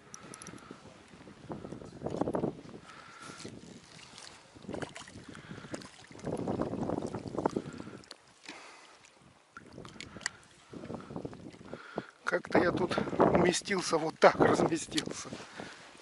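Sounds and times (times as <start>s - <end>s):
water sloshing from wading: 0.4s - 16.0s.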